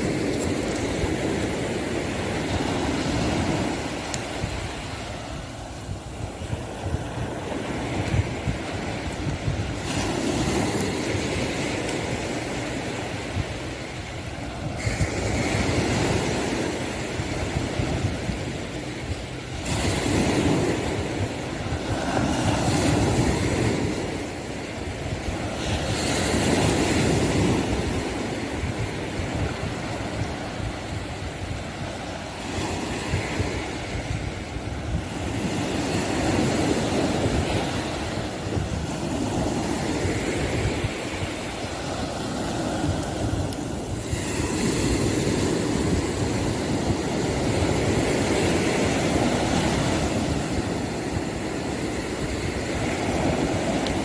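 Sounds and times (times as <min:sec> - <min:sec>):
sea waves breaking on beach: 0:00.0 - 0:54.0
wind rumbling on microphone: 0:00.0 - 0:54.0.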